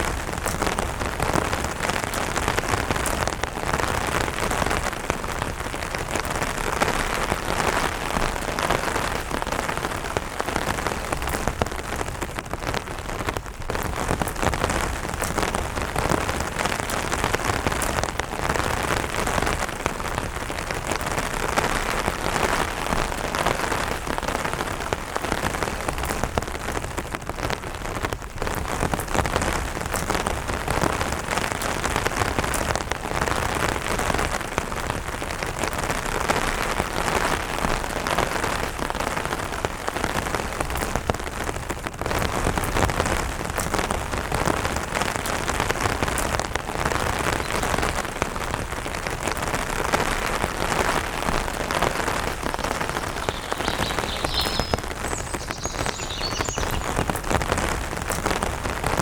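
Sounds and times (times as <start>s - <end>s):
rain pattering on an umbrella: 0.0s - 59.0s.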